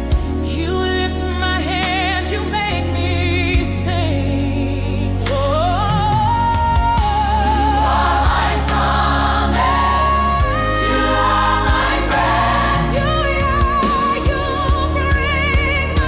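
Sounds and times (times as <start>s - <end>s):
gospel worship music: 0.0s - 16.0s.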